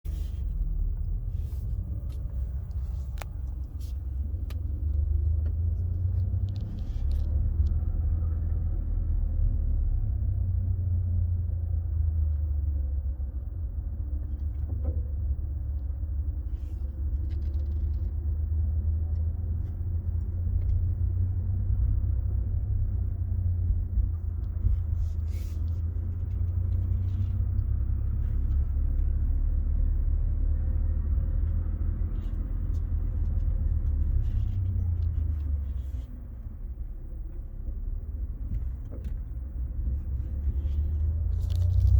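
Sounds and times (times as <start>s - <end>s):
car low rumble: 0.0s - 41.9s.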